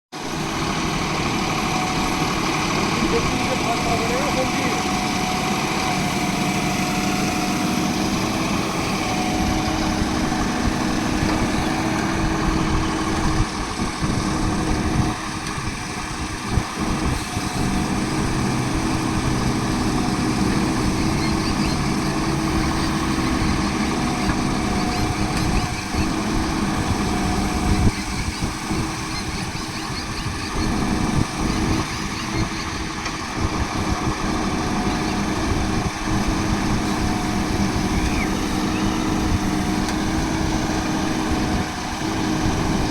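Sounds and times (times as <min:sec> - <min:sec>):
diesel engine running: 0:00.1 - 0:42.9.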